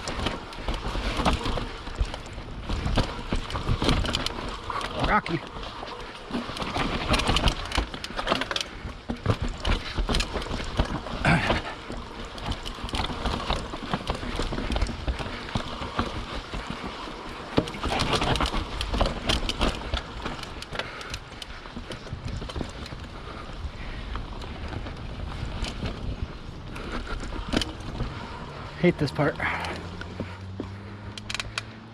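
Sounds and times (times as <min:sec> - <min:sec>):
bike rattling: 0:00.0 - 0:31.9
bike tyres rolling over rock: 0:00.0 - 0:31.9.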